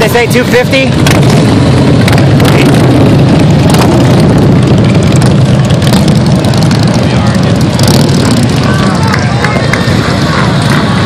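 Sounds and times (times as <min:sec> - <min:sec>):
motorcycles riding past: 0:00.0 - 0:11.0.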